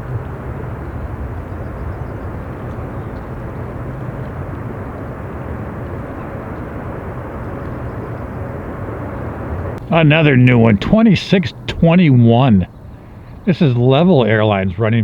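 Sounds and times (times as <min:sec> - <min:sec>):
jet engines roaring: 0:00.0 - 0:15.0
wind rumbling on microphone: 0:00.0 - 0:15.0.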